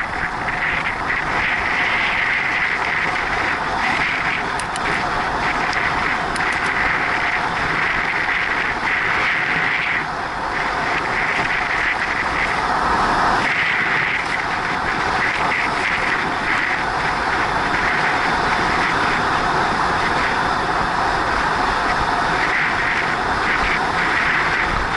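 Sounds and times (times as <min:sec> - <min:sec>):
bicycle tyres on asphalt: 0:00.0 - 0:24.9
wind rushing over microphone: 0:00.0 - 0:24.9.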